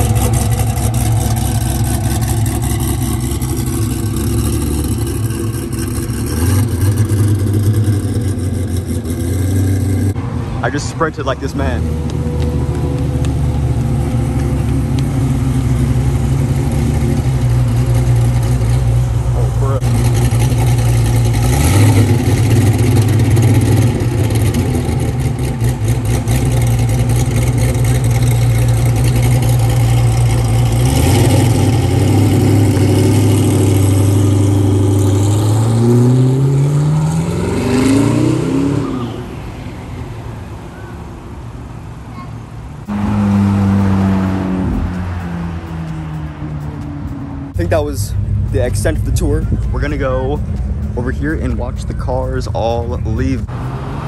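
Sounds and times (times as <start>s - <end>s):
high-pitched car engine running: 0.0s - 41.2s, 42.1s - 54.0s
car engine idling and revving: 0.0s - 54.0s.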